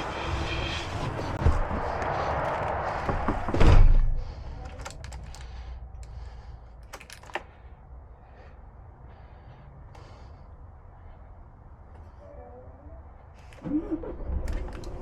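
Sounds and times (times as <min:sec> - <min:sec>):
outside noise: 0:00.0 - 0:15.0.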